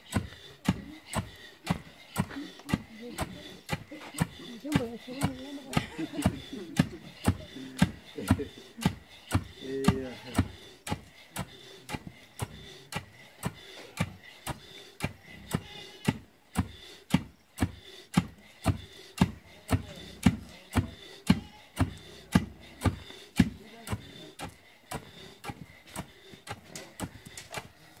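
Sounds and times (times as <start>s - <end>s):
pestles pounding in wooden mortar: 0.0s - 28.0s.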